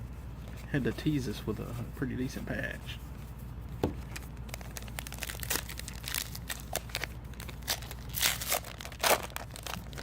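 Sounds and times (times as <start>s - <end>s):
wrappers and cards crinkling: 0.4s - 10.0s.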